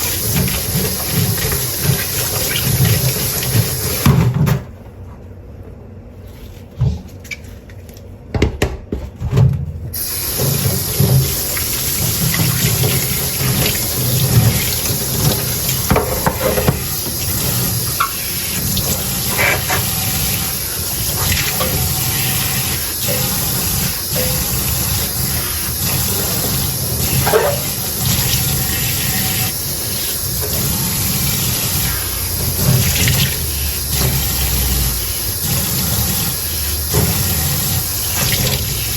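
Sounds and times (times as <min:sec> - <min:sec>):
tap water running into sink: 0:00.0 - 0:04.4, 0:10.0 - 0:38.9.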